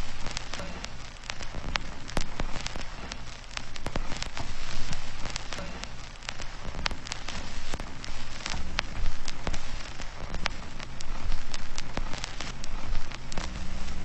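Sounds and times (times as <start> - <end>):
rain pattering on a surface: 0.0 - 14.0.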